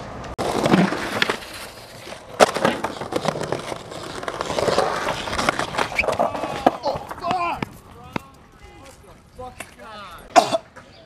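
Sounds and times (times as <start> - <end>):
skateboard clacking: 0.0 - 9.9
skateboard wheels rolling on concrete: 0.0 - 11.0.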